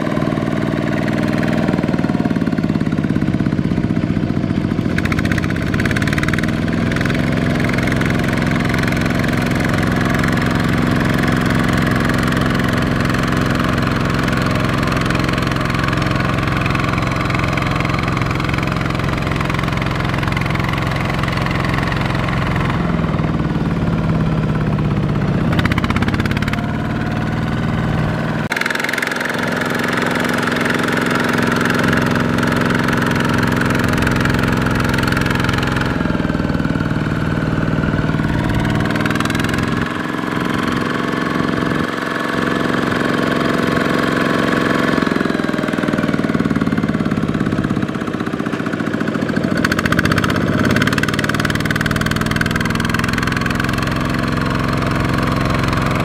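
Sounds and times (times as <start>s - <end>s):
diesel tractor engine running hard: 0.0s - 56.0s.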